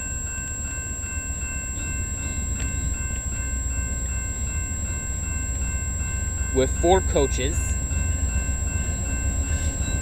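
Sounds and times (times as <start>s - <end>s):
diesel train low rumble: 0.0s - 10.0s.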